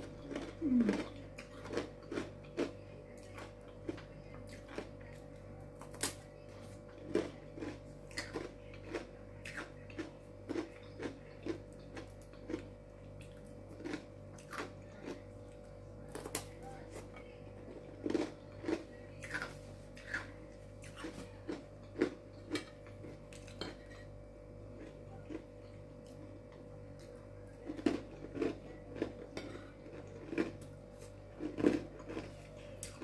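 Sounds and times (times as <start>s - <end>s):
chewing crunchy crispbread: 0.0s - 33.0s
low electrical hum: 0.0s - 33.0s.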